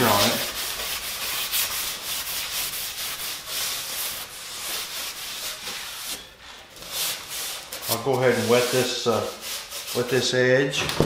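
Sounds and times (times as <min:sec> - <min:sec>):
damp towel rubbing on panel: 0:00.0 - 0:10.4.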